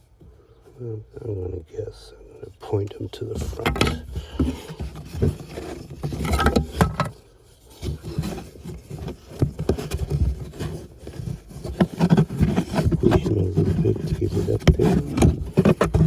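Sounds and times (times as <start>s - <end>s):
air filter scraping and knocking: 2.5s - 16.0s.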